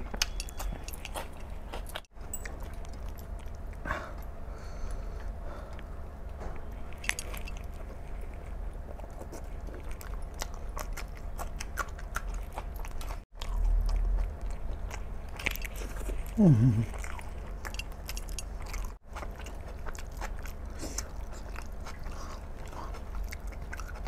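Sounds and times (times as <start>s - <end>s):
man chewing with wet mouth sounds: 0.0s - 24.0s
steady low hum: 0.0s - 24.0s.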